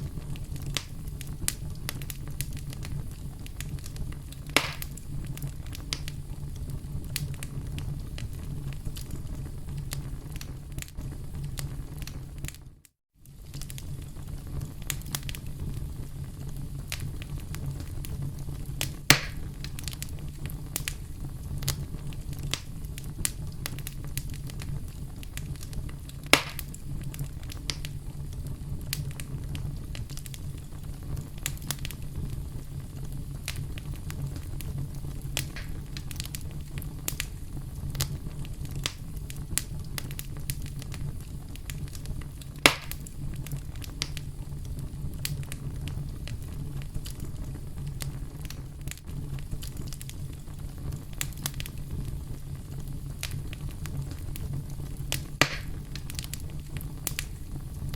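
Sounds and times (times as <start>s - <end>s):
campfire crackling: 0.0s - 57.9s
campfire rumbling: 0.0s - 57.9s
loud fire pops: 0.0s - 57.9s.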